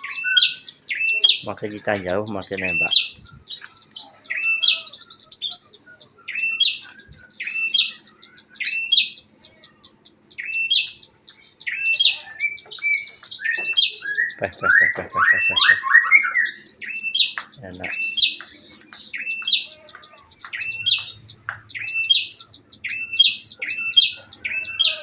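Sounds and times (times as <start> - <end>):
nuthatch calling: 0.0 - 25.0.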